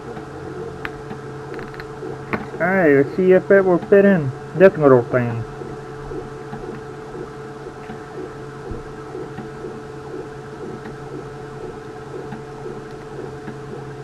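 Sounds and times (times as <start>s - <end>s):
stepper motors humming: 0.0s - 14.0s.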